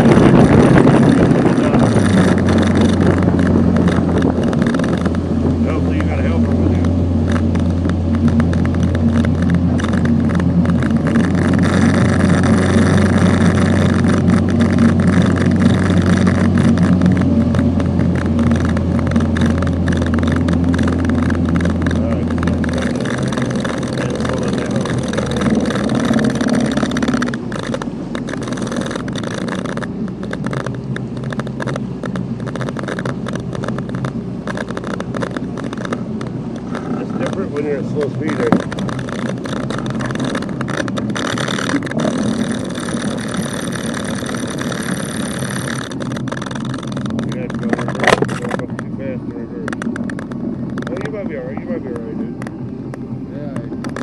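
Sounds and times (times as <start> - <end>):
small boat motor running: 0.0 - 54.0
water noise: 0.0 - 54.0
wind noise: 0.0 - 54.0.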